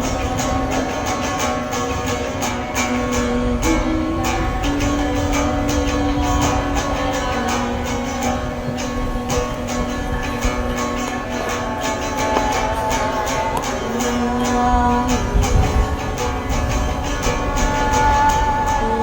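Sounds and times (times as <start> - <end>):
strummed guitar music: 0.0 - 19.0.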